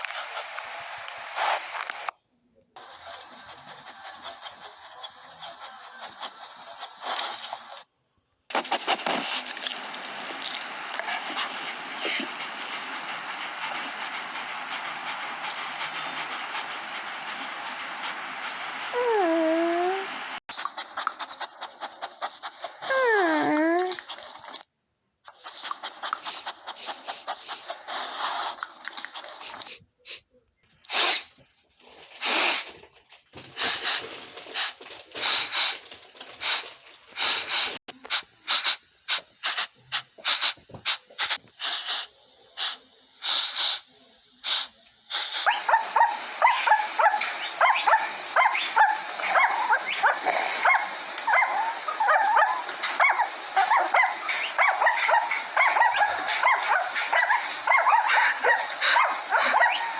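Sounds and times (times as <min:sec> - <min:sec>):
puppy sniffing close to microphone: 0:02.8 - 0:07.9, 0:08.5 - 0:24.7, 0:25.3 - 0:31.4, 0:32.1 - 0:32.8, 0:33.4 - 0:59.9.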